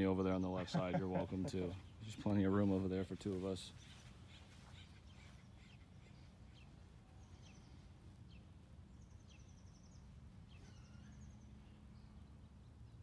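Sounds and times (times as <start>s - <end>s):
faint birds chirping and trilling: 0.0s - 13.0s.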